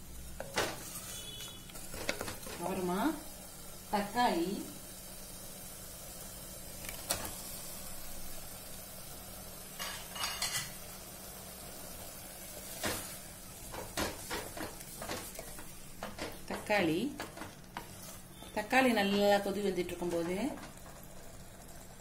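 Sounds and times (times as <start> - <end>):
onions sizzling in pan: 0.0 - 22.0.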